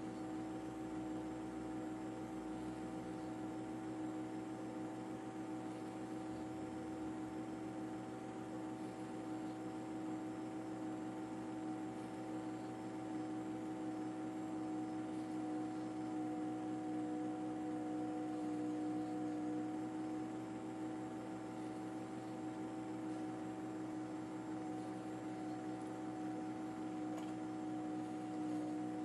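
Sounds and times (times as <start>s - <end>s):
steady mechanical drone: 0.0s - 29.0s.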